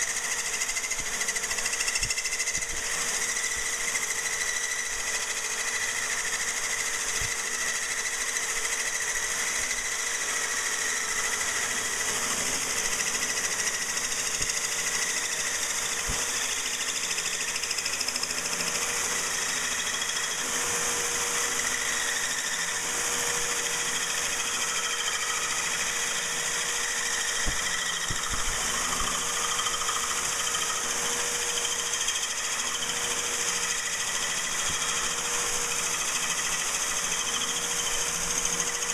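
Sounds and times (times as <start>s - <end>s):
electric drill cutting glass: 0.0s - 38.9s.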